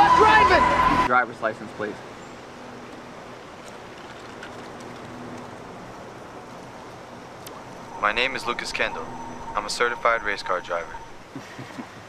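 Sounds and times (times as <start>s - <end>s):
low outdoor hiss: 1.1s - 12.0s.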